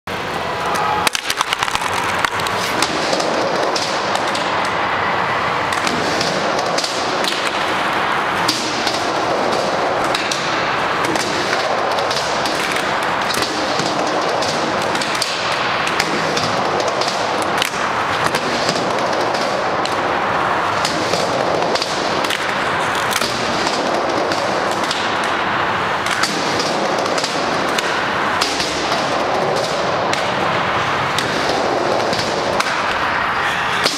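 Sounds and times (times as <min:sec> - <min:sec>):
skateboard wheels rolling: 0:00.1 - 0:33.9
skateboard clacks on ramp: 0:00.7 - 0:04.8, 0:08.4 - 0:33.1.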